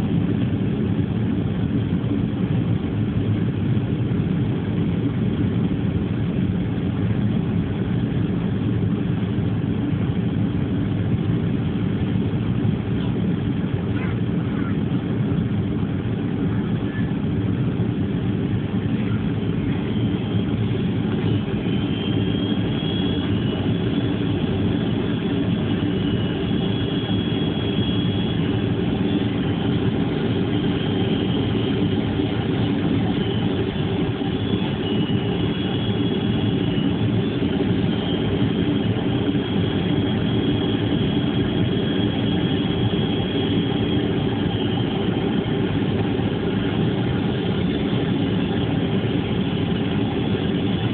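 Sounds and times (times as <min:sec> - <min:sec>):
airliner engine drone: 0:00.0 - 0:50.9
faint high whine: 0:01.8 - 0:50.9.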